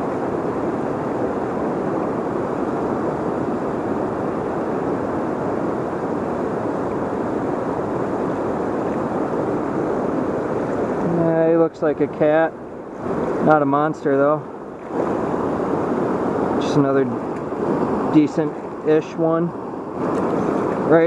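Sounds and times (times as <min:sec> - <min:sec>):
floodwater rushing in river: 0:00.0 - 0:21.0.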